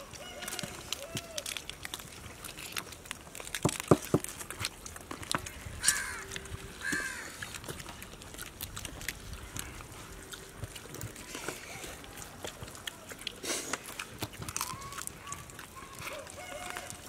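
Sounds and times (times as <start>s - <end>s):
crab shells cracking: 0.0s - 17.0s.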